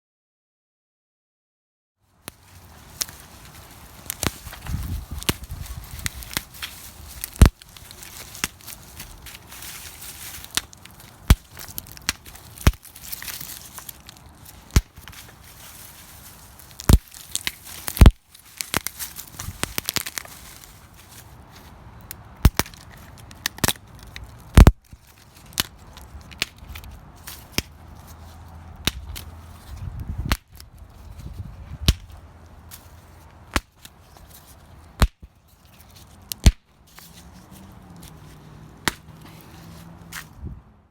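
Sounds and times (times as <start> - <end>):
crackling and rustling: 2.1 - 40.4
branches snapping: 2.2 - 40.4.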